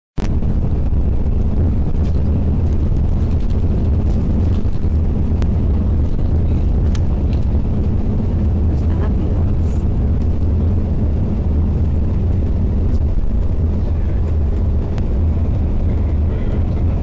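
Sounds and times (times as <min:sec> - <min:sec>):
vehicle cabin road and engine noise: 0:00.2 - 0:17.0.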